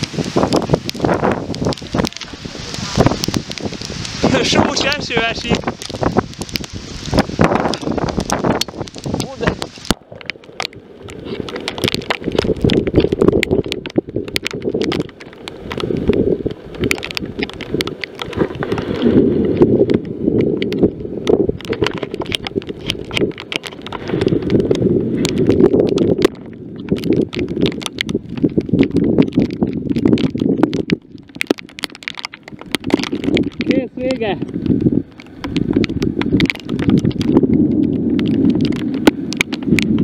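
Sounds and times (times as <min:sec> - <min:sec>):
gusty wind buffeting microphone: 0:00.0 - 0:40.0
sharp crackles: 0:00.0 - 0:40.0.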